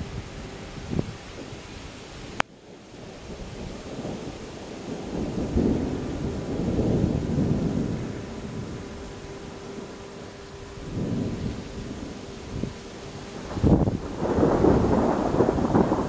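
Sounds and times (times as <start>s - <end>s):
rolling thunder: 2.7s - 16.0s.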